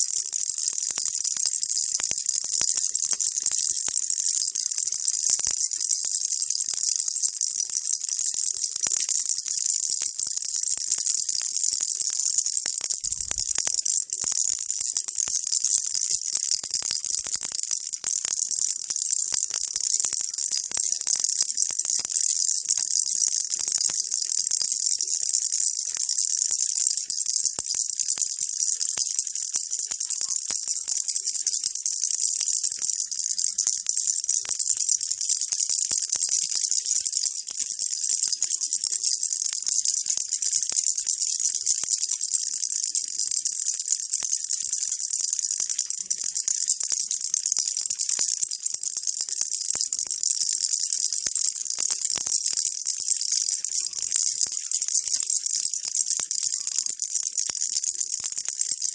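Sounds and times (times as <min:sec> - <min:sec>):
baby rattle shaken: 0:00.0 - 0:58.9.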